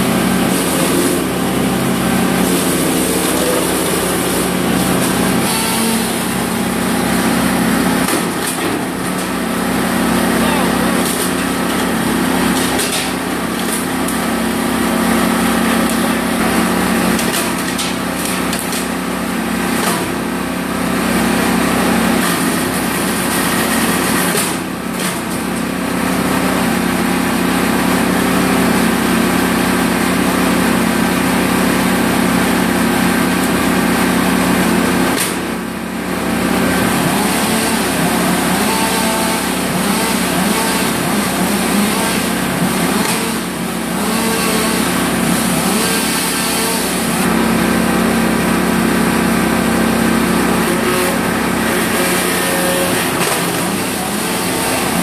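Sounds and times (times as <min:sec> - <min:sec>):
chipper-shredder engine running: 0:00.0 - 0:55.0.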